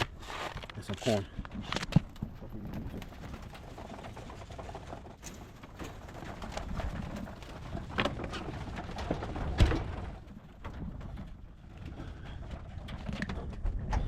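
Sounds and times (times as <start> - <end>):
containers knocking and rattling: 0.0 - 14.0.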